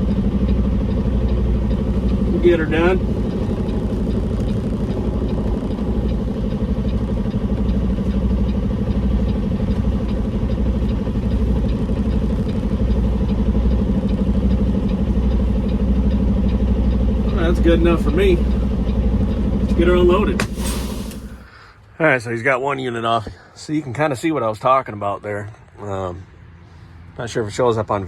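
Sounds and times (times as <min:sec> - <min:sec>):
diesel truck engine rumbling: 0:00.0 - 0:23.6.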